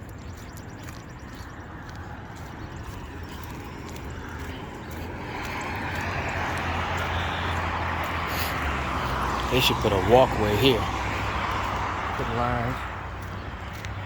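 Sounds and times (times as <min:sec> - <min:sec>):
car approaching: 0:00.0 - 0:14.0.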